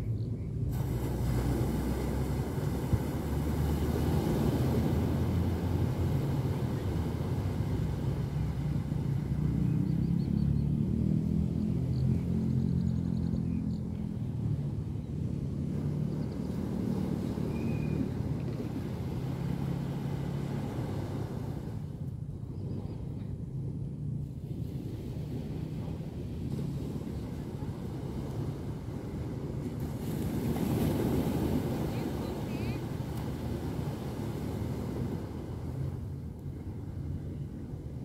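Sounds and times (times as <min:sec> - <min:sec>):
wind buffeting microphone: 0:00.0 - 0:38.0
small waves washing in: 0:00.6 - 0:10.0, 0:14.2 - 0:23.2, 0:24.0 - 0:38.0.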